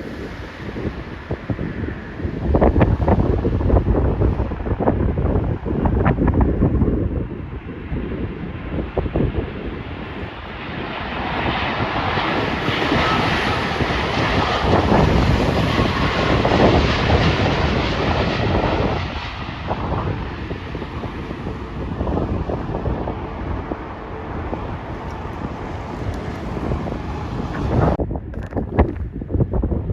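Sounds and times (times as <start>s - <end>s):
jet airliner engine noise: 0.0s - 29.9s
wind buffeting microphone: 0.0s - 29.9s.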